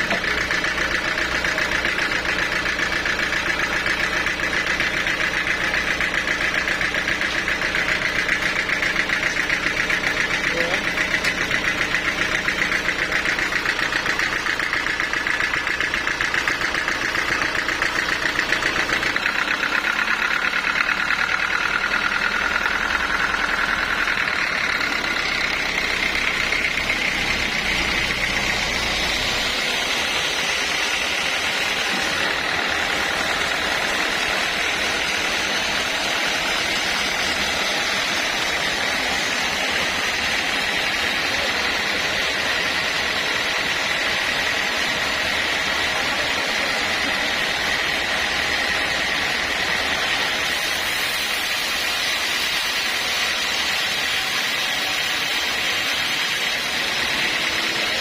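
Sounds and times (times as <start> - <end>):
sawmill engine-driven saw running: 0.0 - 58.0.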